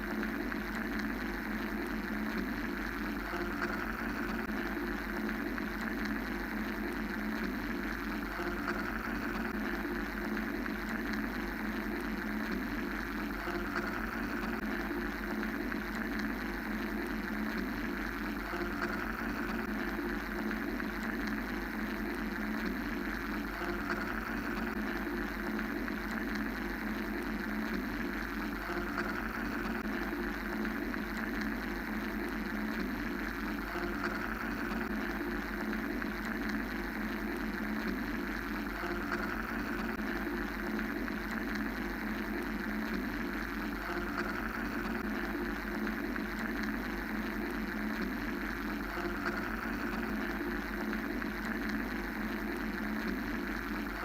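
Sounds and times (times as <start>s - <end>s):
mechanical white noise drone: 0.0s - 54.0s.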